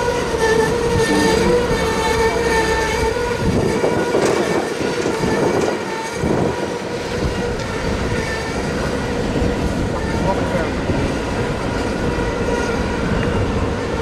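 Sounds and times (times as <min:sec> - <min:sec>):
steady whine: 0:00.0 - 0:13.2
steel wheels rumbling on rail: 0:00.0 - 0:14.0.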